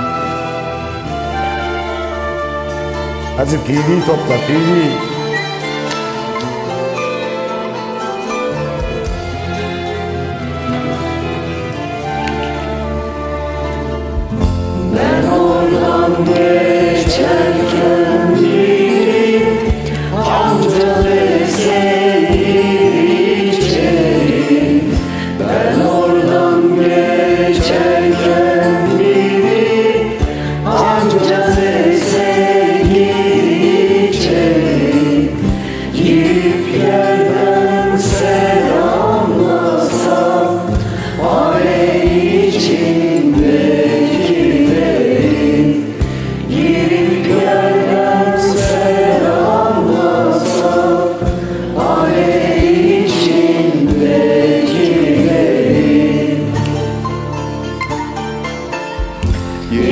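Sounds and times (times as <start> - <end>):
karaoke backing track: 0.0 - 7.3, 13.6 - 59.9
people singing together: 8.3 - 57.2, 59.2 - 59.9.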